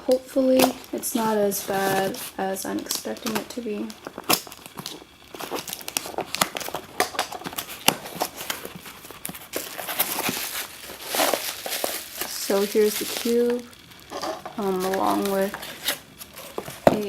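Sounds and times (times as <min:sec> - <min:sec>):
plastic packaging crinkling: 0:00.4 - 0:17.0
plastic tearing: 0:00.4 - 0:17.0.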